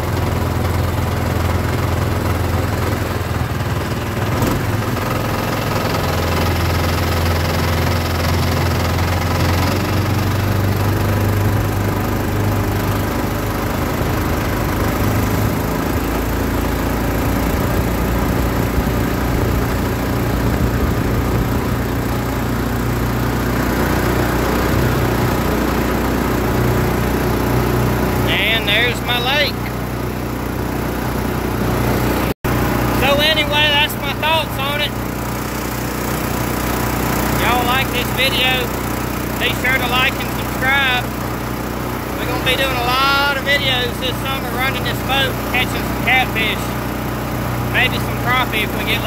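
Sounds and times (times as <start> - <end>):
boat motor running: 0.0 - 49.0.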